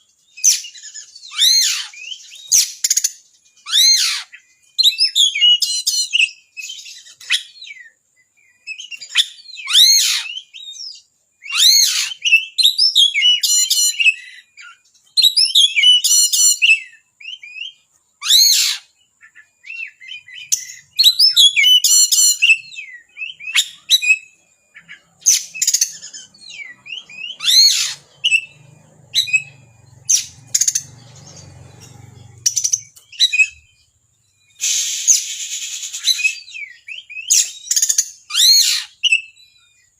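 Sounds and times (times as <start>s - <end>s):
bird singing whistled notes and trills: 0.0s - 39.9s.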